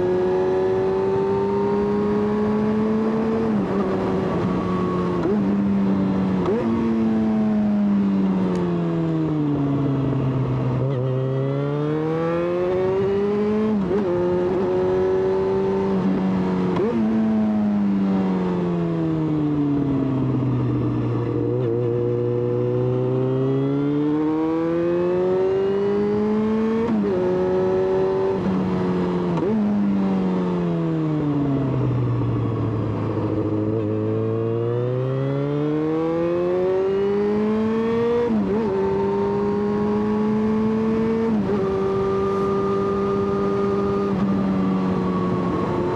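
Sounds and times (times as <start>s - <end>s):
motorcycle engine revving with upshifts: 0.0s - 45.9s.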